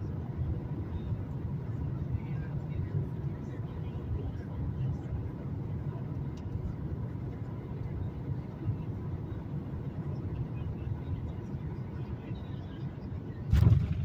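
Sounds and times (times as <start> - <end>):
airplane cabin engine rumble: 0.0 - 14.0
faint steady whine: 0.0 - 14.0.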